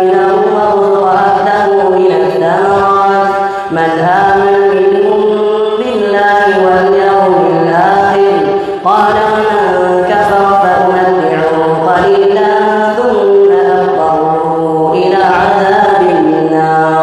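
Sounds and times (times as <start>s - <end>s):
person chanting recitation: 0.0s - 17.0s.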